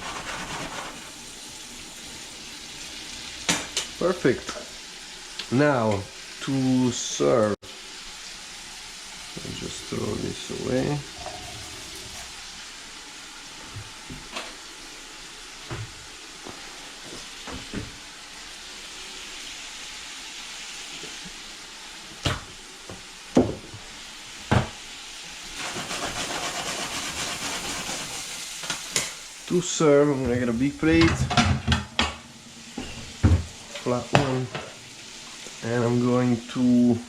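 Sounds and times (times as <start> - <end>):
shrimp sizzling in a pan: 0.0 - 31.0, 32.2 - 37.0.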